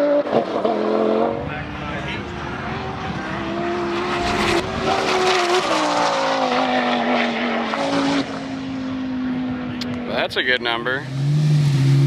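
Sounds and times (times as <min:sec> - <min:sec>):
race car engine running hard: 0:00.2 - 0:12.0.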